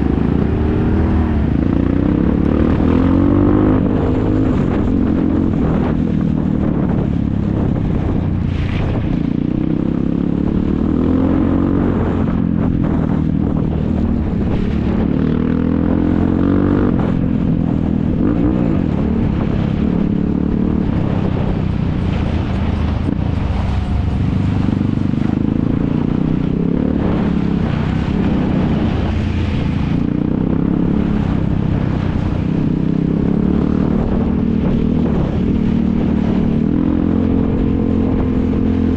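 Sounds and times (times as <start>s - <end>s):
quad bike engines revving: 0.0s - 38.9s.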